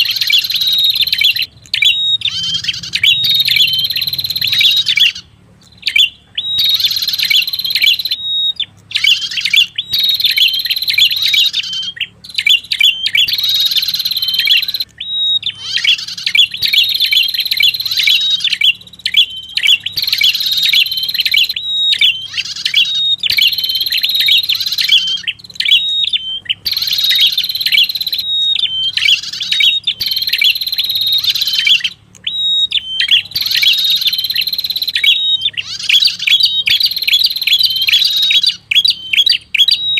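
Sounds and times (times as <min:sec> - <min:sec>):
bird singing rapid chattering phrases: 0:00.0 - 0:39.9.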